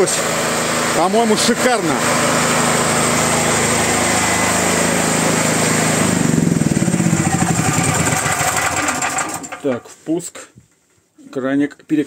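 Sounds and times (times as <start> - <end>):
generator engine running: 0.0 - 9.9.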